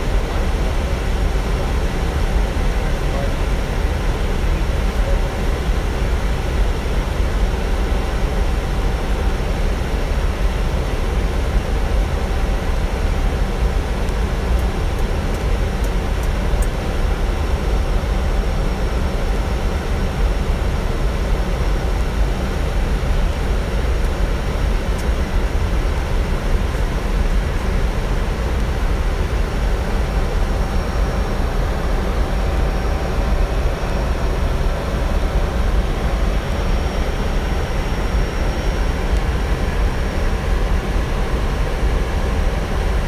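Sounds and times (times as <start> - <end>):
faint steady whine: 0.0 - 43.0
jet engines droning: 0.0 - 43.0.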